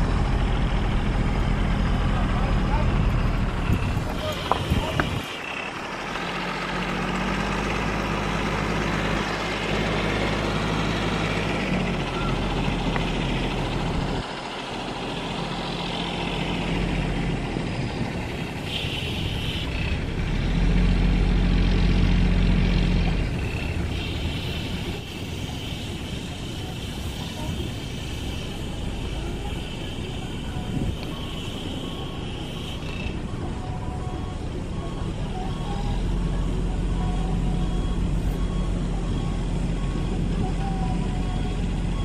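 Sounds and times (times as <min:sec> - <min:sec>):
diesel bus engine rumbling: 0:00.0 - 0:42.0.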